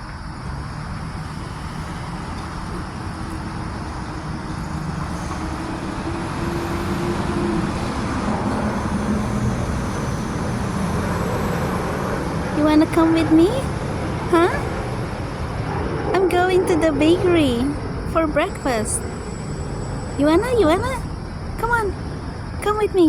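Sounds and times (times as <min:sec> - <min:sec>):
vehicle engines humming: 0:00.0 - 0:23.0.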